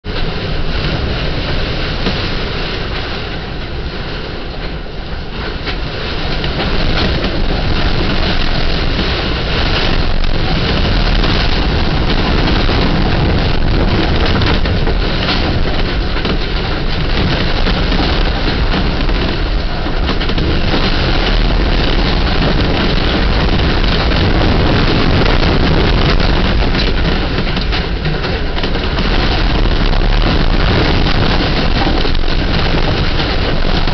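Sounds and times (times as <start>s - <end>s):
strong wind rushing: 0.0s - 33.9s.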